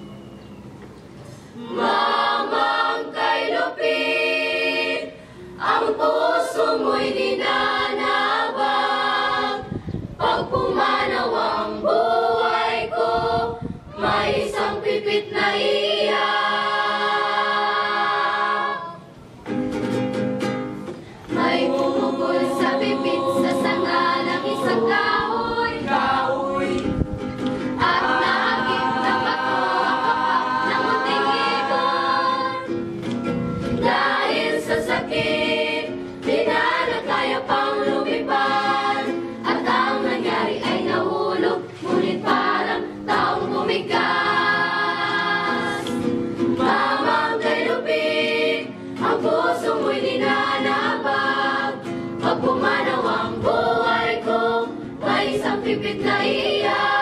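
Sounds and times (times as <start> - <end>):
choir singing in harmony: 1.3 - 19.2, 21.3 - 32.9, 33.6 - 57.0.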